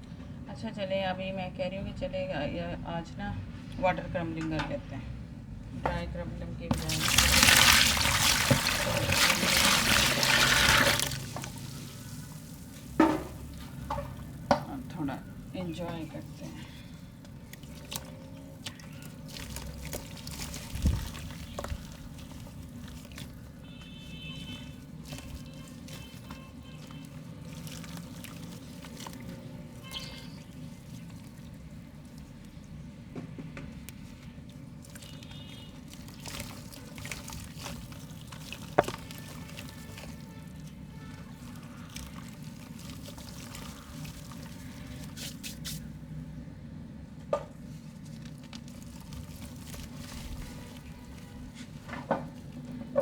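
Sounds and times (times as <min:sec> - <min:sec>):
mud crumbling into water: 0:06.7 - 0:46.2, 0:47.5 - 0:53.0
water dripping and trickling: 0:06.7 - 0:46.3, 0:47.8 - 0:53.0.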